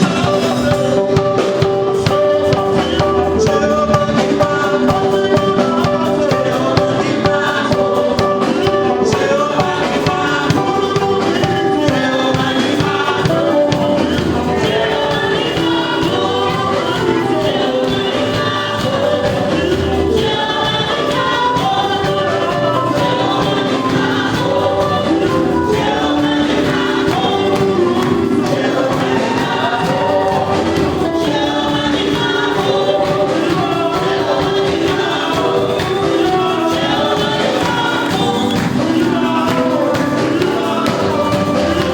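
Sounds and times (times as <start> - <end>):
band with drums: 0.0 - 41.9
choir singing gospel: 0.0 - 41.9.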